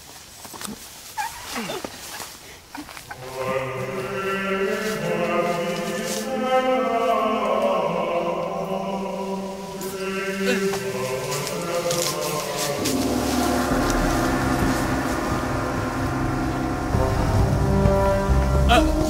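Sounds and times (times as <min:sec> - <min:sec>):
chant-like voices in film music: 0:03.0 - 0:19.0.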